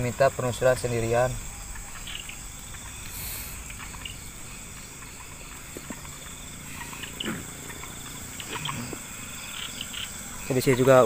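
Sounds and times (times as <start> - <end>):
crickets trilling: 0.0 - 11.0
rustling hiss: 0.0 - 11.0.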